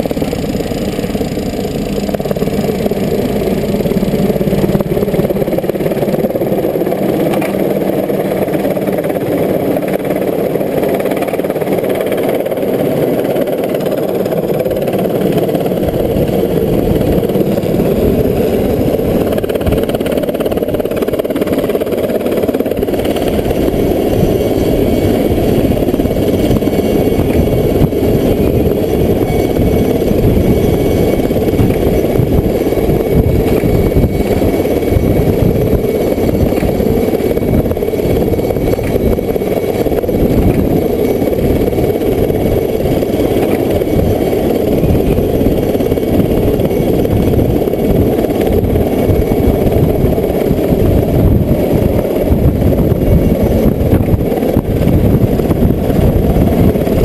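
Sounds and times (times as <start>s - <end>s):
helicopter hovering: 0.0s - 57.0s.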